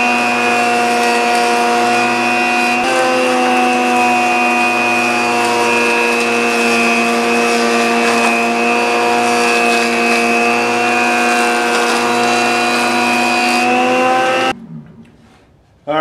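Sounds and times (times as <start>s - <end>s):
jointer motor whine: 0.0s - 14.6s
knives shaving wood: 0.0s - 14.6s.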